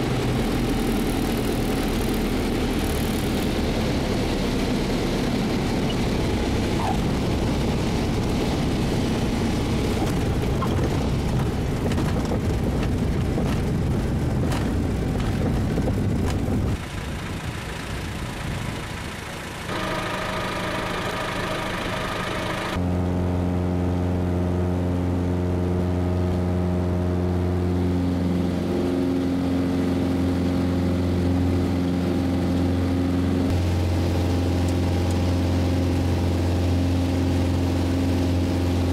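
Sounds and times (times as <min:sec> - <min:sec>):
propeller aircraft engine drone: 0:00.0 - 0:38.9.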